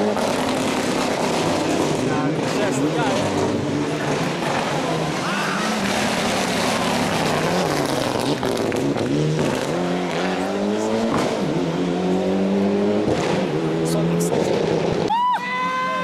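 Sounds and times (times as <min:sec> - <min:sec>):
rally car engine revving hard: 0:00.0 - 0:15.1.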